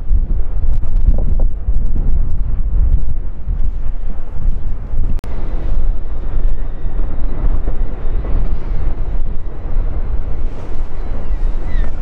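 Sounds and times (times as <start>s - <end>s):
lava fountain rumbling: 0.0s - 11.8s
wind buffeting microphone: 0.0s - 12.0s.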